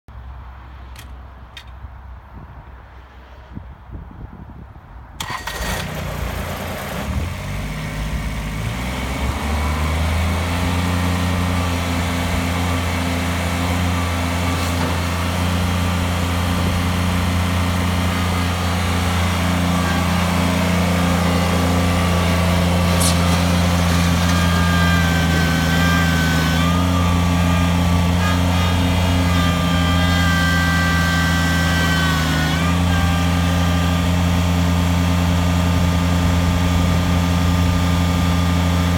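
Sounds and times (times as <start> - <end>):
diesel tractor engine starting: 5.1 - 38.9.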